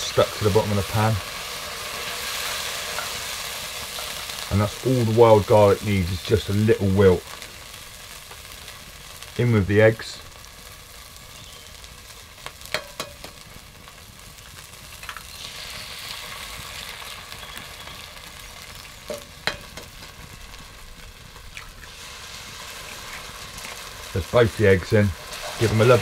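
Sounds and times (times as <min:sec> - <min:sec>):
potatoes sizzling in a pot: 0:00.0 - 0:26.0.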